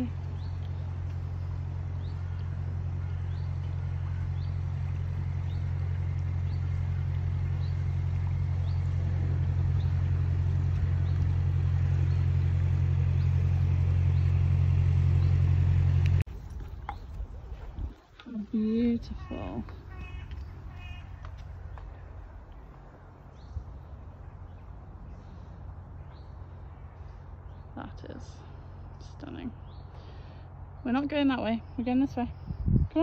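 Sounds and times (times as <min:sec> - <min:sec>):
boat diesel engine humming: 0:00.0 - 0:32.2.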